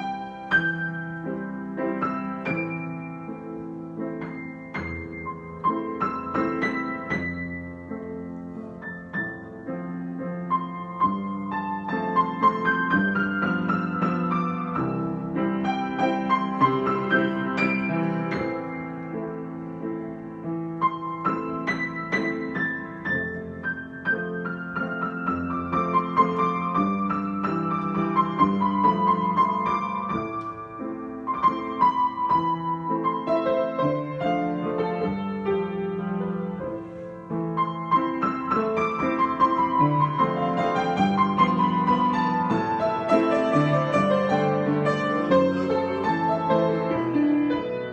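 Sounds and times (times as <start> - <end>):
solo piano: 0.0 - 47.9.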